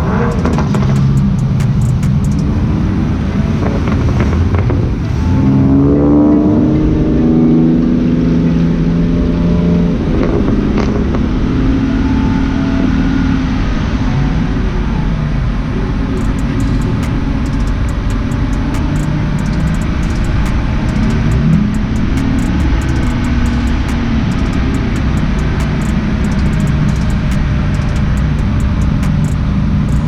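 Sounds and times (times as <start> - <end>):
car engine accelerating: 0.0 - 13.2, 14.9 - 30.0
road rumble: 0.0 - 30.0.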